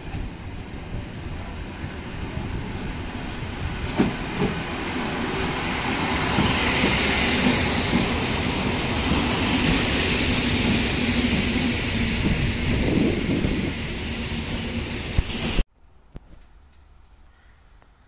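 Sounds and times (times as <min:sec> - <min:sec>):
train hum and rumble: 0:00.0 - 0:15.6.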